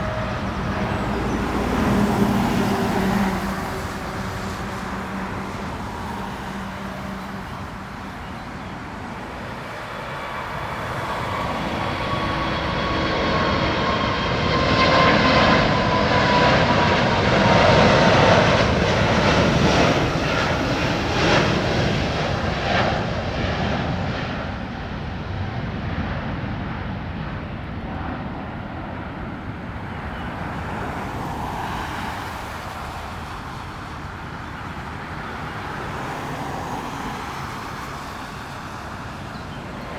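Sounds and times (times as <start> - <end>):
high engine whine: 0.0 - 39.9
jet airliner engines taking off: 0.0 - 39.9.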